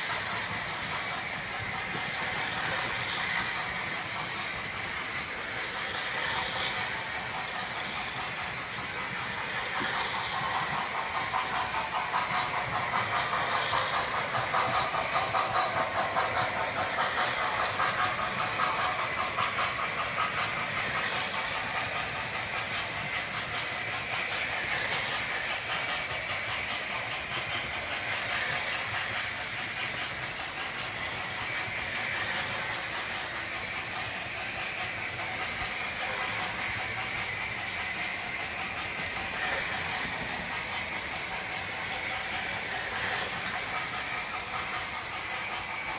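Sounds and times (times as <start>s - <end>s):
model train clicking on track: 0.0s - 45.9s.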